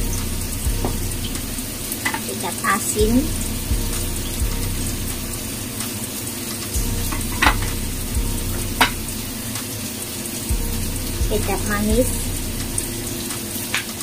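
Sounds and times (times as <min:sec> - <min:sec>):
oil crackling: 0:00.0 - 0:14.0.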